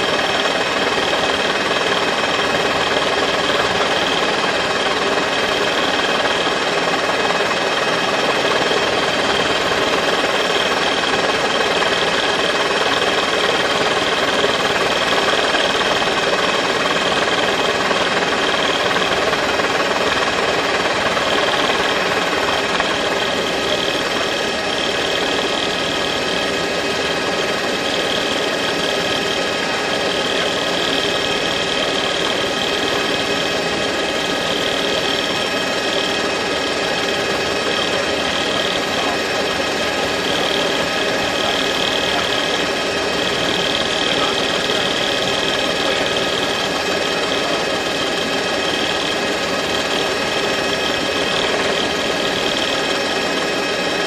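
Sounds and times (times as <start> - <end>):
helicopter engine and rotors: 0.0 - 54.0.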